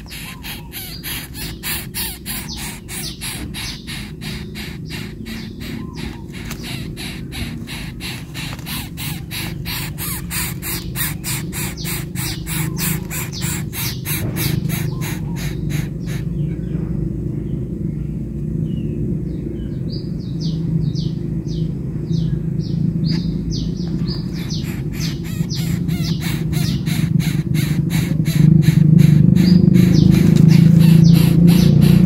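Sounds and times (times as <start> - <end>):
harsh scratchy bird calls: 0.0 - 16.8, 20.4 - 32.0
steady low hum: 0.0 - 32.0.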